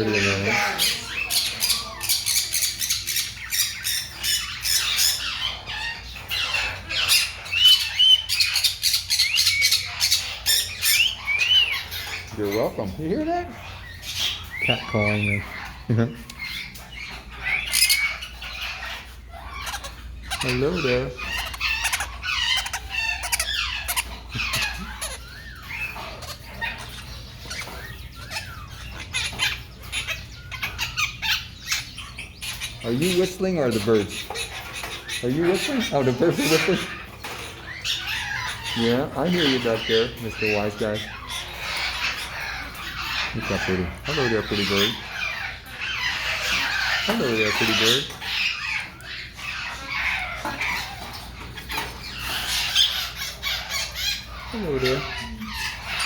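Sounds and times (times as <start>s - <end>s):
birds squawking and chirping: 0.0s - 56.0s.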